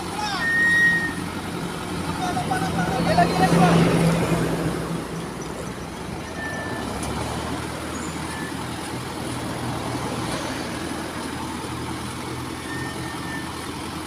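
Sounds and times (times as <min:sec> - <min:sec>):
heavy truck engine under load: 0:00.0 - 0:14.0.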